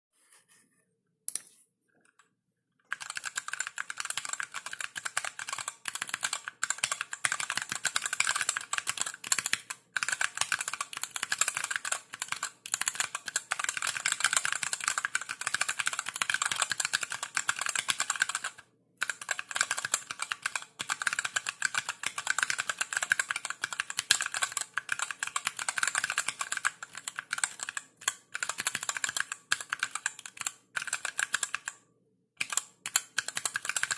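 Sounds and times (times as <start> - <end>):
mechanical keyboard typing: 2.9 - 31.8, 32.4 - 33.9.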